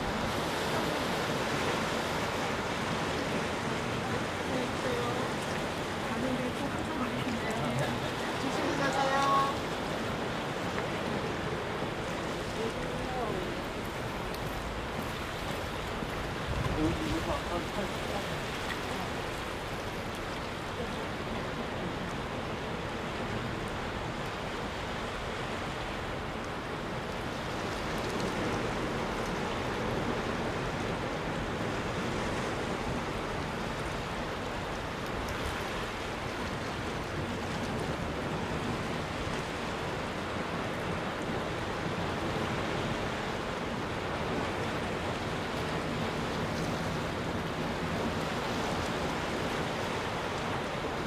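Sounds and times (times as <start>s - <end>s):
waves washing on rocky shore: 0.0s - 51.0s.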